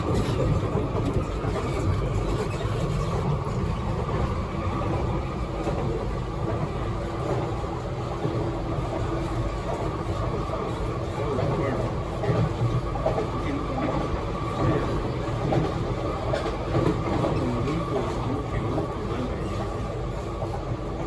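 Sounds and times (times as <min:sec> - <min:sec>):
train traction motors humming: 0:00.0 - 0:21.0
wheels rumbling on track: 0:00.0 - 0:21.0.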